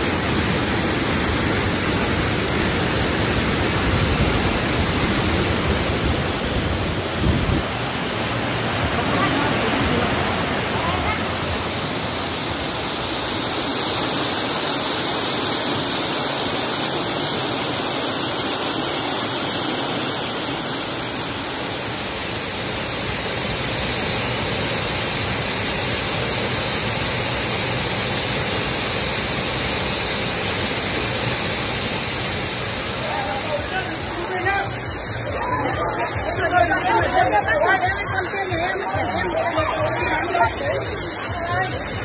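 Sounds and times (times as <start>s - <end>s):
waterfall rushing over rock: 0.0s - 42.0s.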